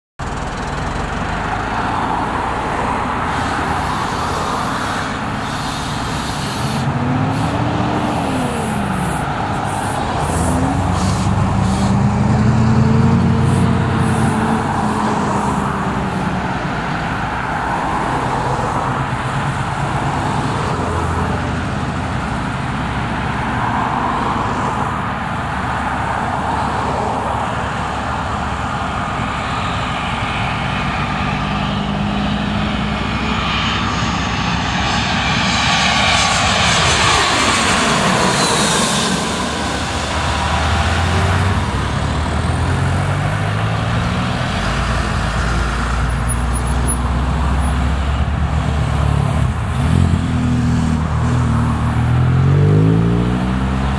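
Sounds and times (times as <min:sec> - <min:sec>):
road traffic passing: 0:00.2 - 0:53.9.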